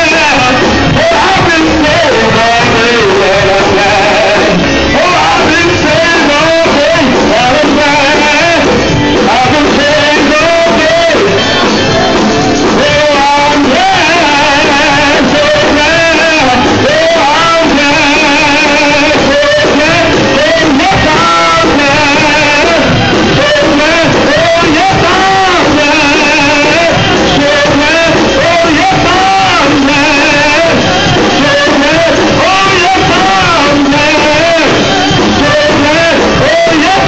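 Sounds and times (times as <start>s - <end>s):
man singing with vibrato: 0.0s - 37.0s
organ accompaniment: 0.0s - 37.0s.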